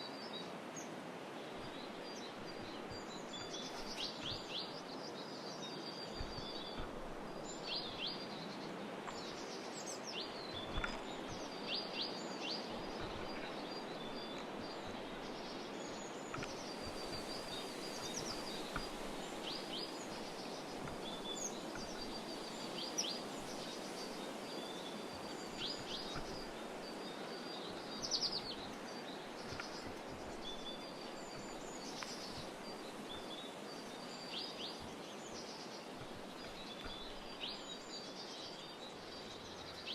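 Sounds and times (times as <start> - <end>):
small songbirds chirping: 0.0 - 39.9
steady background hiss: 0.0 - 39.9.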